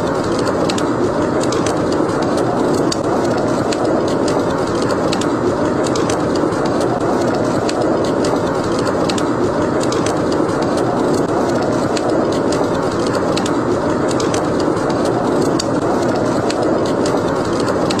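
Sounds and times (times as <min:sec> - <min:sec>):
howling wind: 0:00.0 - 0:18.0
wood fire crackling: 0:00.0 - 0:18.0.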